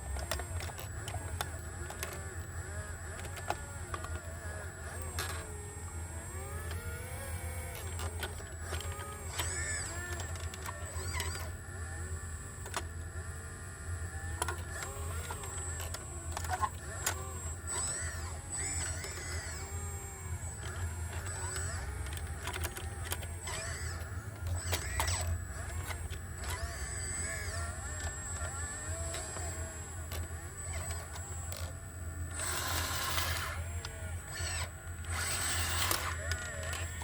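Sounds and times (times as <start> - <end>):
excavator diesel engine running: 0.0 - 37.0
hydraulic whine: 0.0 - 37.0.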